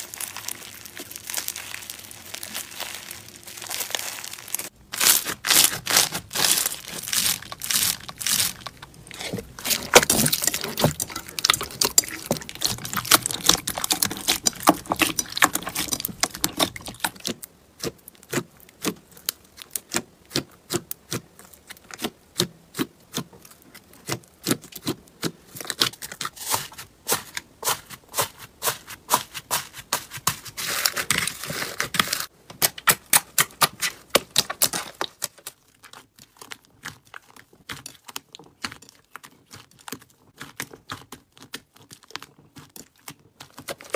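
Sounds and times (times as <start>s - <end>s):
slime crackling and popping: 0.0s - 26.6s, 30.6s - 43.9s.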